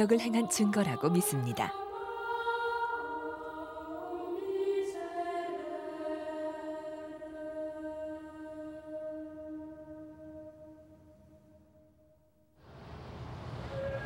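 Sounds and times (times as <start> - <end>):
choir holding long notes: 0.0 - 11.8, 13.0 - 14.0.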